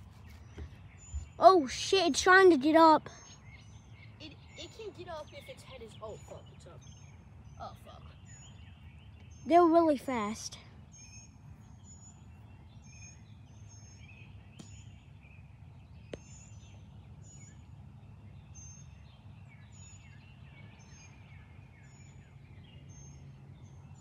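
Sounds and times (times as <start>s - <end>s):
soft bird chirps: 0.0s - 24.0s.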